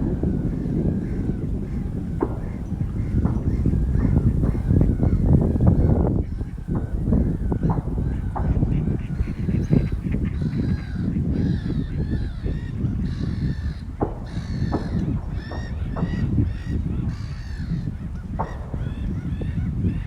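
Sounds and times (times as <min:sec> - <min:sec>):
birds calling: 0:00.0 - 0:20.0
low rumbling noise: 0:00.0 - 0:20.0.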